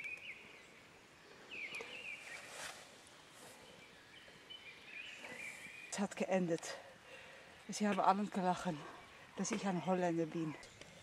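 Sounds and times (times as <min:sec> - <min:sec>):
faint birdsong warbling: 0:00.0 - 0:11.0.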